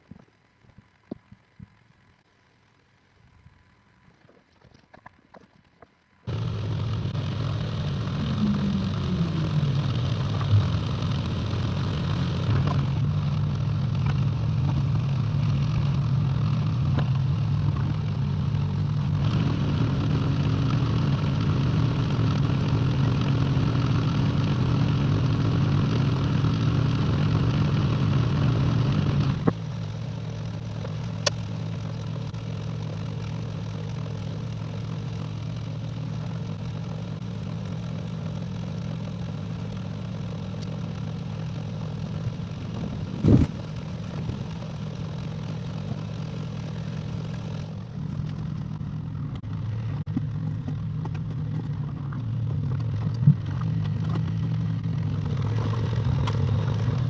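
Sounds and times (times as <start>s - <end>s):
excavator diesel engine running: 6.3s - 57.0s.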